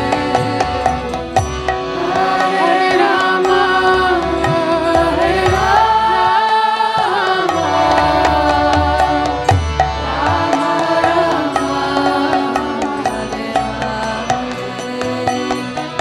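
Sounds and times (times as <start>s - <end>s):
held gliding melody: 0.0s - 16.0s.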